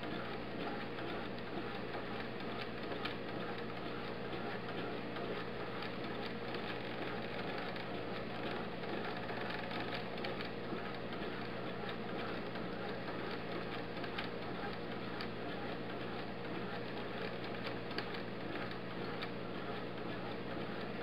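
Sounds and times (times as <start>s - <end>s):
mechanism humming: 0.0s - 21.0s.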